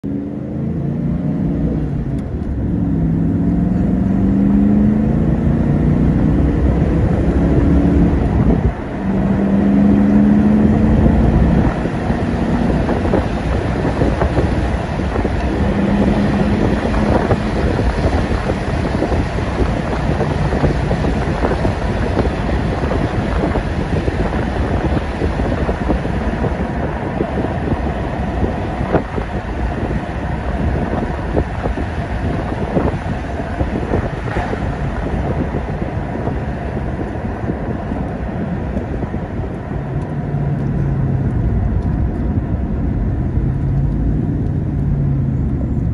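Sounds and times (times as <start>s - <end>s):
car engine revving: 0.0s - 45.9s
road and wind noise: 0.0s - 45.9s.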